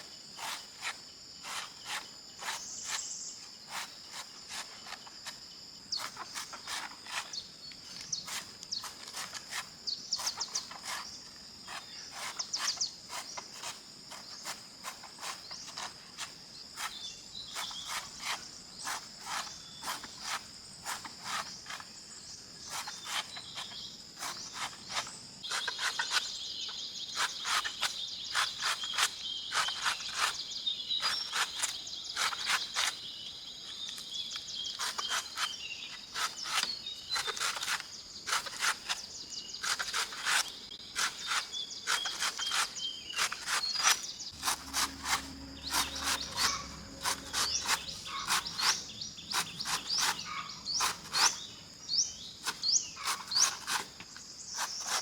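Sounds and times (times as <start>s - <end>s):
insects trilling: 0.0s - 55.0s
louder insect chorus: 0.0s - 55.0s.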